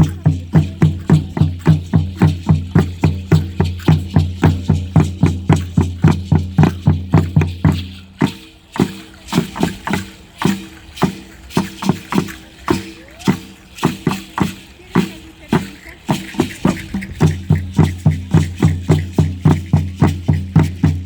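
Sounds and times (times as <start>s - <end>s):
drum beating with deep boom: 0.0s - 21.0s.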